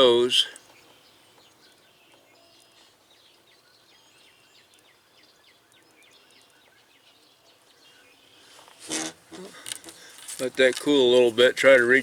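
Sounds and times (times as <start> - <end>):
faint bird chirping: 0.0 - 10.2.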